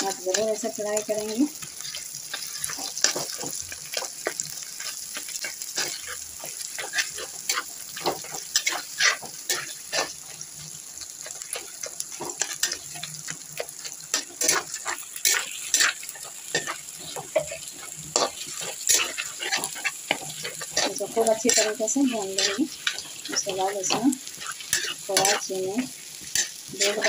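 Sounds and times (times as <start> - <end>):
potatoes sizzling in ghee: 0.0 - 27.0
spatula scraping pan: 0.0 - 27.0.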